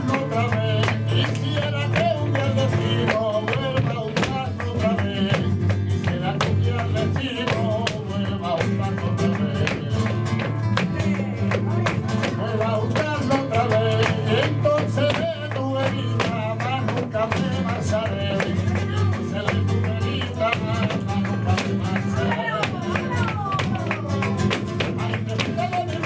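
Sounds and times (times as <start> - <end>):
flamenco guitar: 0.0 - 26.0.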